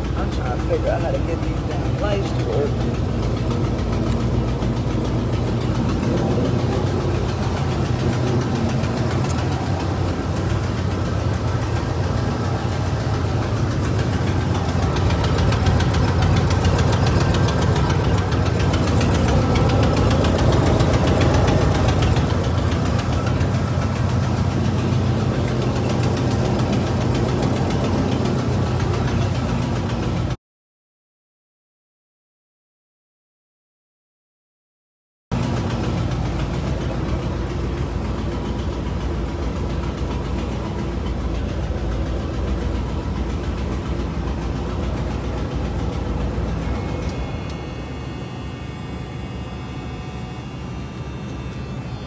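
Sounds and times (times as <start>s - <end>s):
car engine idling: 0.0s - 30.4s, 35.3s - 52.0s.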